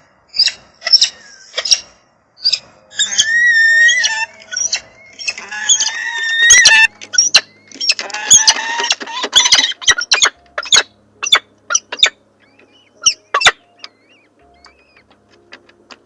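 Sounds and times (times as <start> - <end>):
bird sharp chirps: 0.3 - 8.6, 9.4 - 15.6
birds harsh chattering calls: 0.4 - 16.0.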